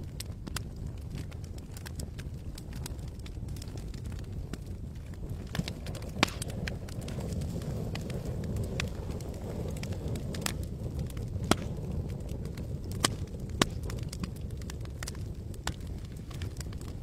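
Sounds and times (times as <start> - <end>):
campfire burning: 0.0 - 17.0
wood crackling and popping: 0.0 - 17.0.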